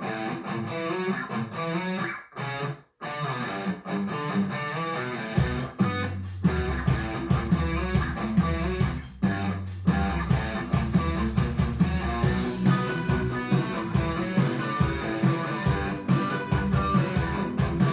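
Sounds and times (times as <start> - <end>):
guitar-led instrumental music: 0.0 - 17.9.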